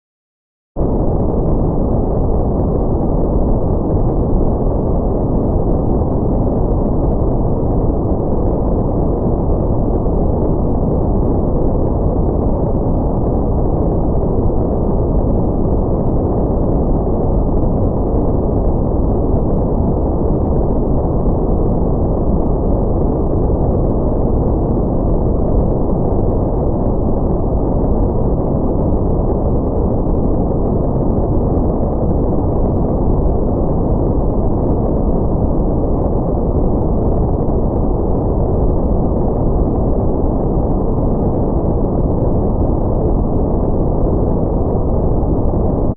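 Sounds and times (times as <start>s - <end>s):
deep rumbling ambience: 0.8s - 45.9s.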